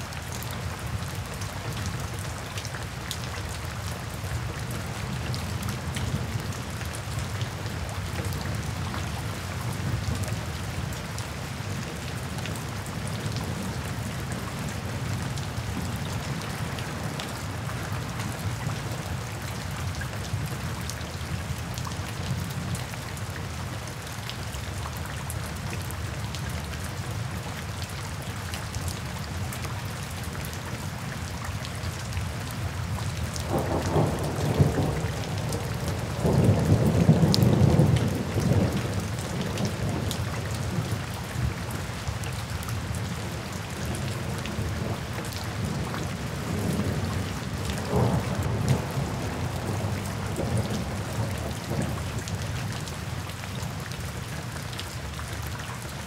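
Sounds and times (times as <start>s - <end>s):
rain splashing on wet paving: 0.0s - 56.0s.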